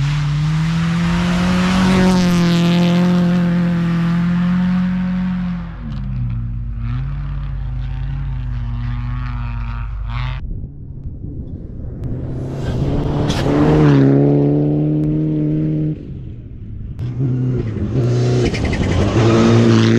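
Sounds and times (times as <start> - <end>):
rally car engine revving: 0.0 - 10.4, 12.0 - 16.2, 17.0 - 19.9.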